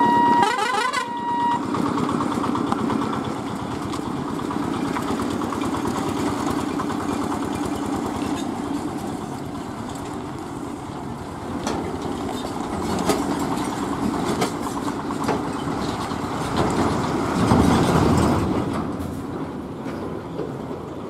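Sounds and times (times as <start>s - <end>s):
diesel truck engine running: 0.0s - 21.0s
wheels clunking over rails: 1.5s - 21.0s.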